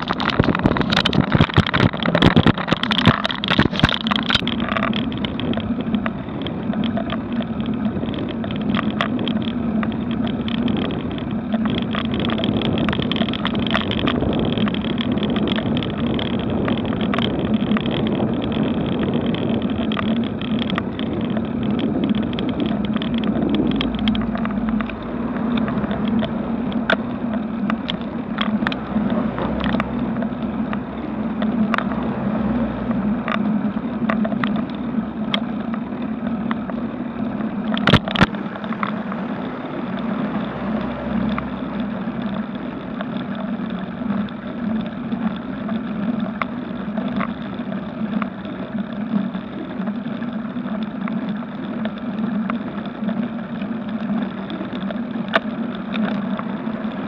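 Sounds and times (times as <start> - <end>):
low hum: 0.0 - 57.0
sharp clicks and knocks: 0.0 - 57.0
wind and road noise: 0.0 - 57.0.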